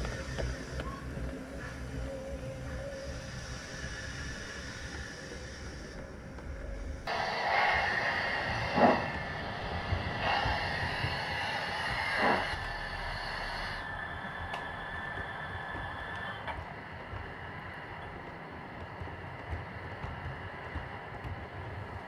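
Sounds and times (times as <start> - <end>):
low rumble: 0.0 - 21.6
steam locomotive hiss: 0.0 - 21.9
heavy locomotive chuffs: 0.0 - 22.0.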